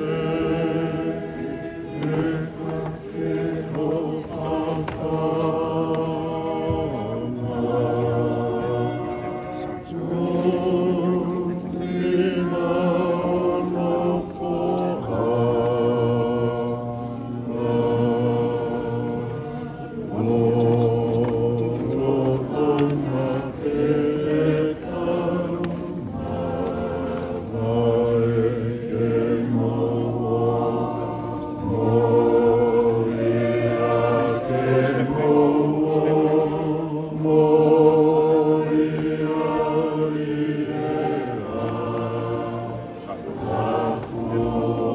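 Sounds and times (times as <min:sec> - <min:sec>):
choir singing in harmony: 0:00.0 - 0:44.9.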